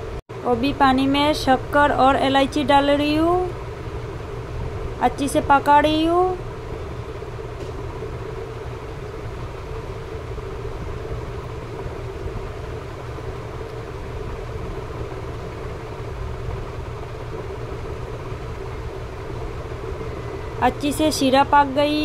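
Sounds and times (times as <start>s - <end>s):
faint constant hum: 0.0s - 22.0s
gas stove burner rumble: 0.0s - 22.0s.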